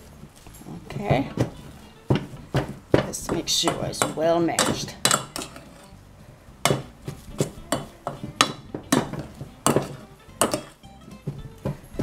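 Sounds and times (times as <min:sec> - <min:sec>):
potato masher knocking metal pot: 0:01.0 - 0:05.9, 0:06.6 - 0:12.0.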